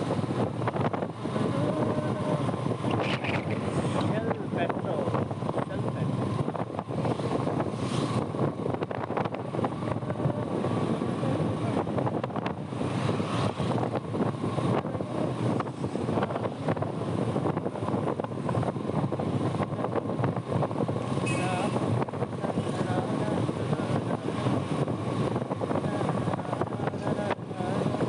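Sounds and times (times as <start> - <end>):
motorbike engine: 0.0 - 28.0
wind buffeting microphone: 0.0 - 28.0.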